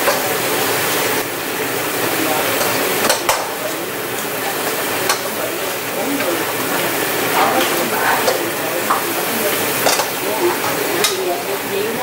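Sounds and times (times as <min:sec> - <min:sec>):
utensils clicking against pan: 0:00.0 - 0:01.1, 0:02.0 - 0:12.0
crab legs sizzling in a frying pan: 0:00.0 - 0:12.0.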